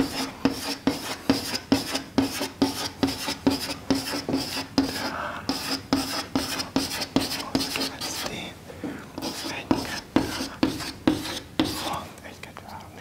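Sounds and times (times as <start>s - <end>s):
chalk tapping and scraping on blackboard: 0.0s - 8.5s, 9.2s - 12.1s.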